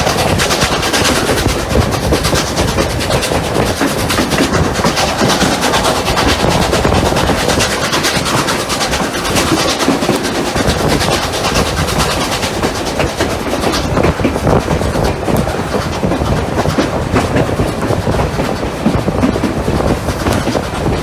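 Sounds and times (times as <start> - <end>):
rapid sharp ticks: 0.0 - 21.0
steam locomotives running: 0.0 - 21.0.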